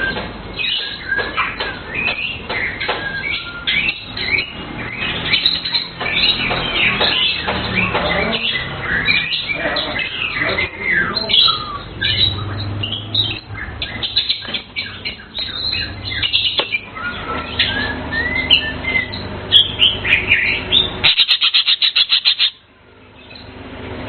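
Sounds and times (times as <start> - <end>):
bird chirping and whistling: 0.0 - 22.6
bird trilling: 0.0 - 23.5.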